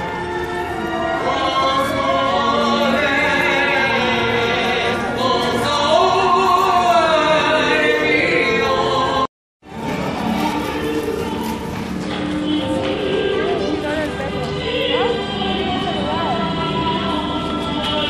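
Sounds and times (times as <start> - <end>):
choral singing with sustained notes: 0.0 - 9.3, 10.2 - 18.0.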